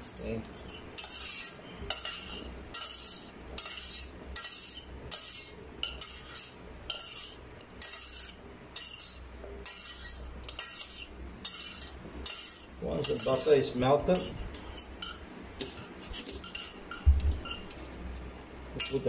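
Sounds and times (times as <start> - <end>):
metal spoon scraping a pot: 0.0 - 18.0, 18.8 - 19.0.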